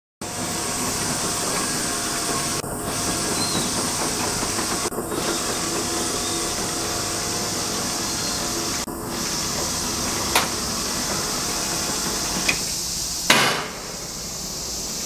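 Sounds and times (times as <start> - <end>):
roller shutter hissing rattle: 0.2 - 15.0.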